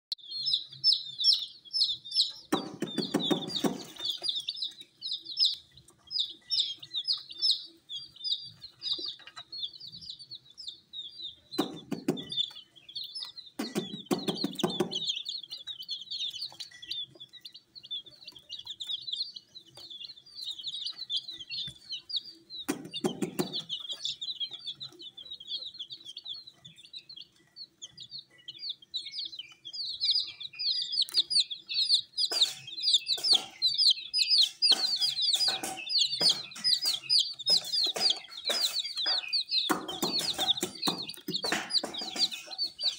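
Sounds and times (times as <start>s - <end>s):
baby chicks peeping: 0.1s - 42.9s.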